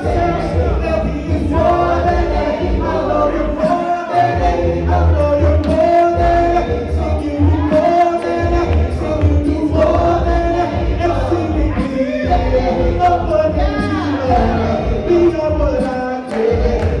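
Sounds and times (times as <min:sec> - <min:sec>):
low sung bass line: 0:00.0 - 0:03.6, 0:04.2 - 0:15.8
women singing harmony: 0:00.0 - 0:15.4
man singing lead: 0:00.0 - 0:17.0.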